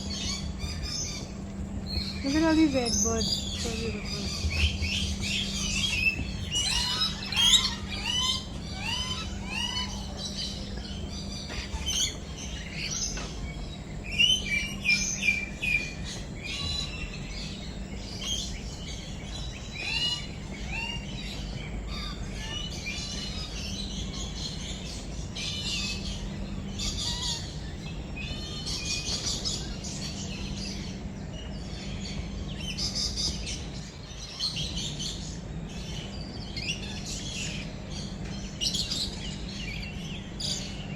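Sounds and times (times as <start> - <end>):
birds chirping: 0.0 - 40.9
steady low hum: 0.0 - 40.9.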